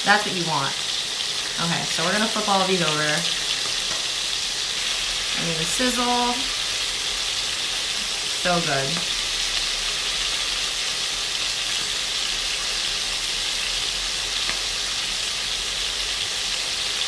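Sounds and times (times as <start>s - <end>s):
beef sizzling in a pan: 0.0s - 17.0s.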